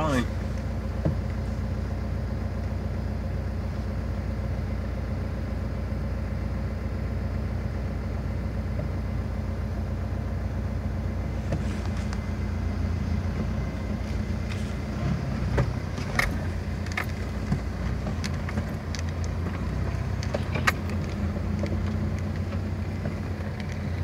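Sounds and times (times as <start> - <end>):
engine running at low revs: 0.0 - 24.0.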